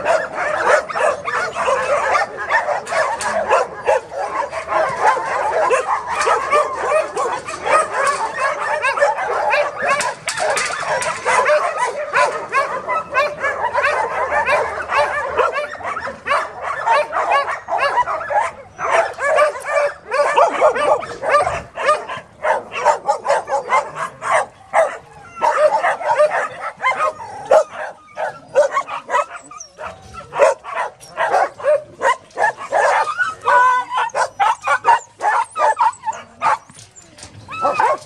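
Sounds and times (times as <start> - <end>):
many dogs barking: 0.0 - 38.0.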